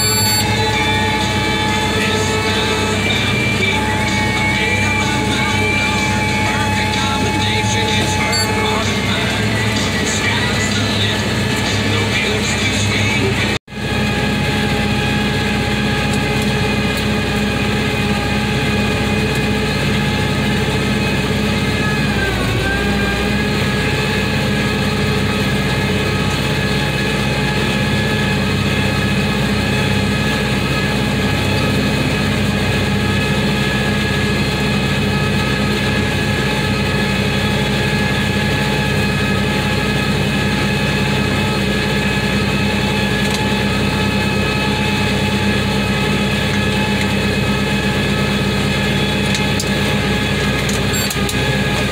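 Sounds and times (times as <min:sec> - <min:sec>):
baler machinery turning: 0:00.0 - 0:51.9
tractor engine under load: 0:00.0 - 0:51.9.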